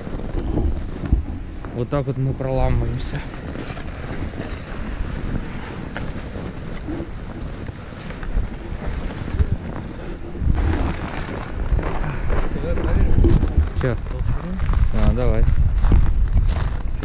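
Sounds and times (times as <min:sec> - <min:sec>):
footsteps crunching in snow: 0:00.0 - 0:17.0
wind buffeting microphone: 0:00.0 - 0:17.0.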